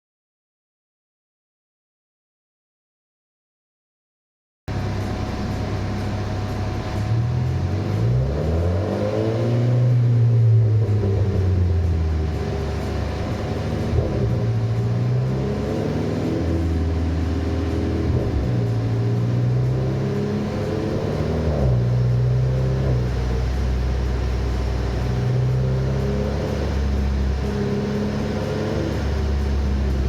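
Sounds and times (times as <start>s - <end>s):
car engine accelerating: 4.7s - 30.0s.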